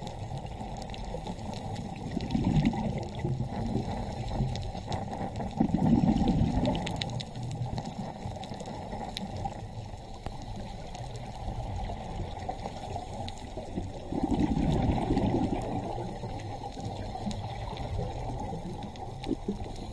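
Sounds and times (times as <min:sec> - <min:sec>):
faint clicks: 0:00.0 - 0:14.0, 0:15.4 - 0:19.9
muffled underwater rumble: 0:00.0 - 0:19.9.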